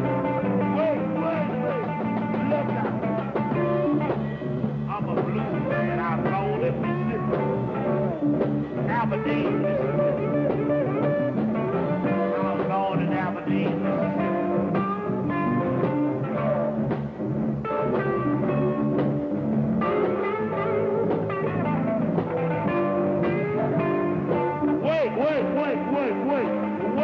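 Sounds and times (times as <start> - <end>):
electric blues band playing: 0.0 - 27.0.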